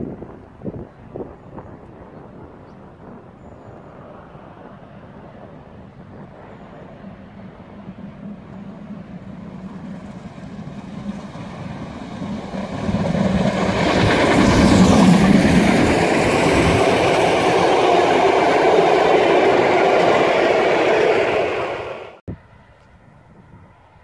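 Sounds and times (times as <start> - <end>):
steam locomotive passing: 0.5 - 22.6.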